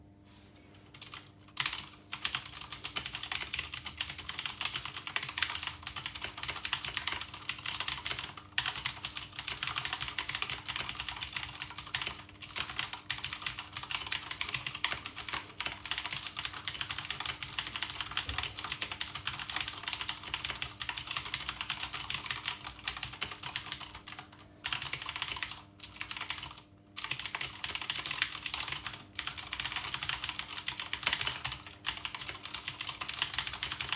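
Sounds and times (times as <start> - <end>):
clicky mechanical keyboard typing: 0.9 - 33.9.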